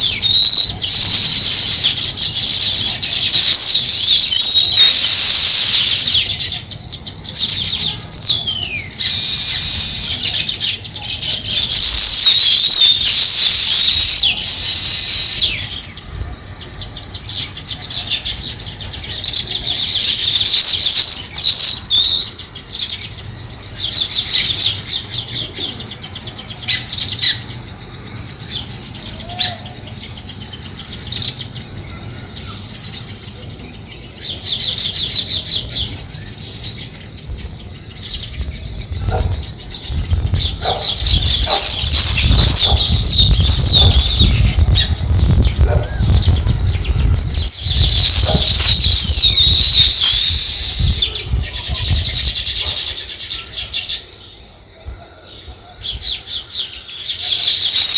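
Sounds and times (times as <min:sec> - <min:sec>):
sparrows chirping: 0:00.0 - 0:57.9.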